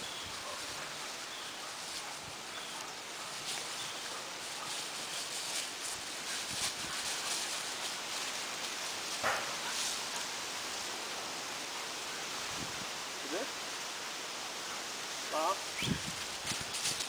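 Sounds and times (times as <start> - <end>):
dog rustling through dry grass: 0.0 - 12.8, 15.0 - 17.0.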